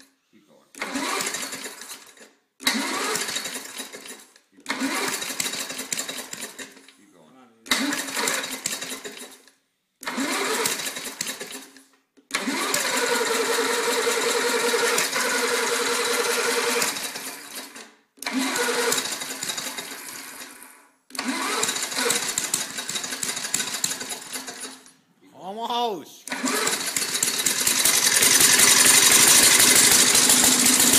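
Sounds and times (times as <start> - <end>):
lawnmower engine sputtering: 0.7 - 6.9, 7.7 - 9.4, 10.0 - 24.9, 26.2 - 30.9.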